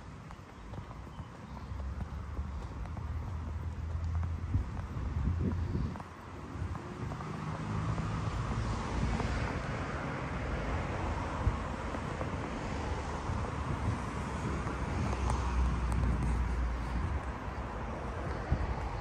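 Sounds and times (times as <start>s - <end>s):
steady outdoor hiss: 0.0s - 19.0s
wind buffeting microphone: 0.0s - 19.0s.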